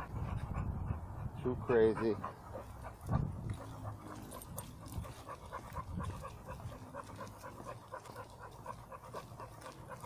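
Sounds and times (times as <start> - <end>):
dog panting fast: 0.0 - 10.0.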